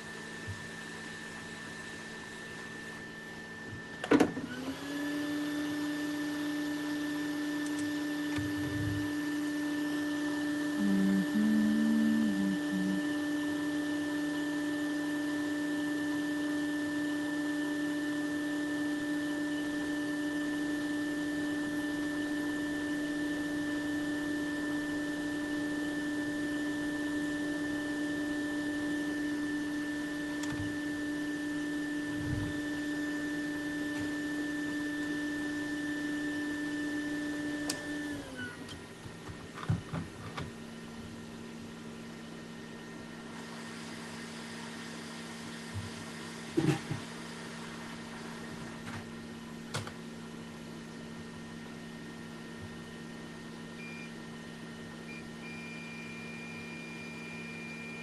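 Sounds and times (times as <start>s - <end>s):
electric motor whining hum: 0.0s - 58.0s.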